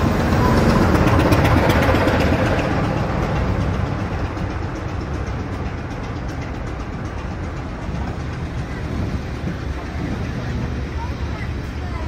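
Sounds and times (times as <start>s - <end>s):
diesel train rumbling: 0.0s - 12.0s
faint clicking from rails: 0.8s - 11.8s.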